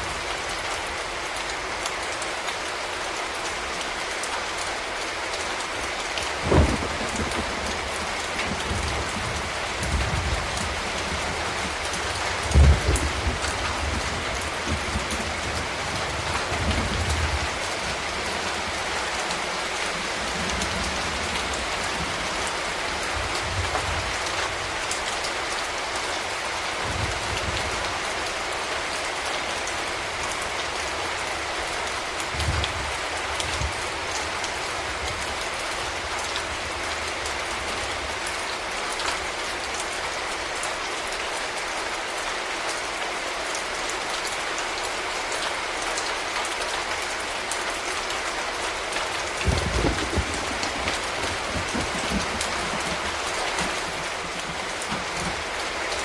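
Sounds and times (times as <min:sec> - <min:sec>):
rain falling on a street: 0:00.0 - 0:56.0.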